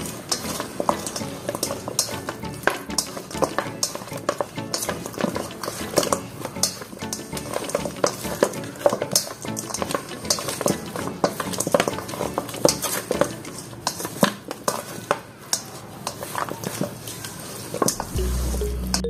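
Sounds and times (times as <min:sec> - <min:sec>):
chopsticks clicking on metal bowl: 0:00.0 - 0:16.9.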